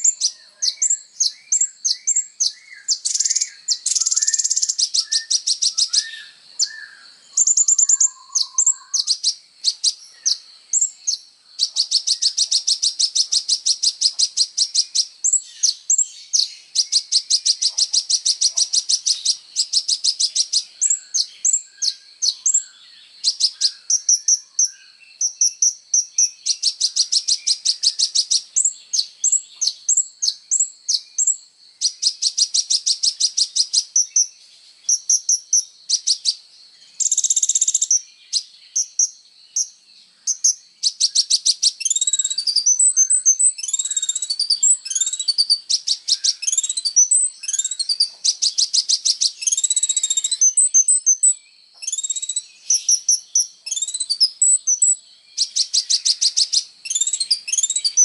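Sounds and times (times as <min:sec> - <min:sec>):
bird singing trills and chirps: 0:00.0 - 0:58.0.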